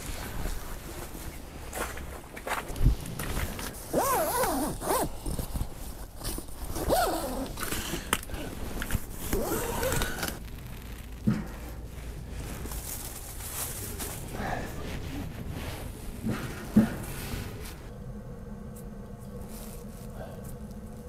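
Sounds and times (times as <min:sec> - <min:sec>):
scraping and rustling: 0:00.0 - 0:17.9.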